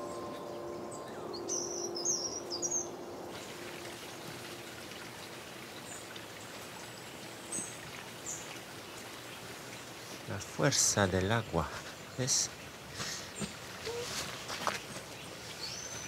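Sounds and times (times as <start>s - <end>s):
small birds chirping: 0.0s - 3.3s, 5.6s - 16.0s
forest stream rushing: 0.0s - 16.0s.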